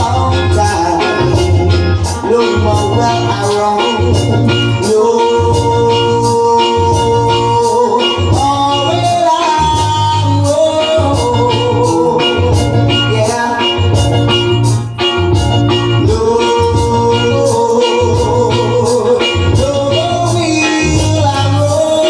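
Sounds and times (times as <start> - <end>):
reggae music: 0.0 - 22.0.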